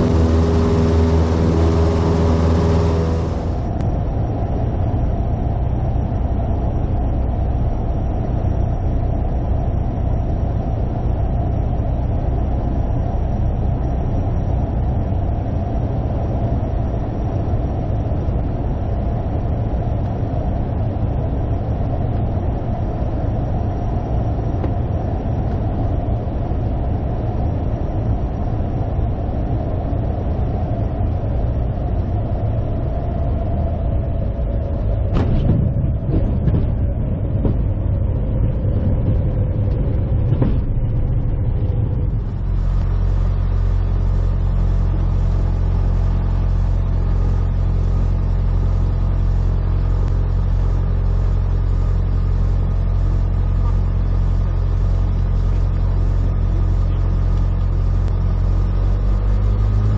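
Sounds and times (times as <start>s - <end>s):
aircraft piston engine and propeller: 0.0s - 59.9s.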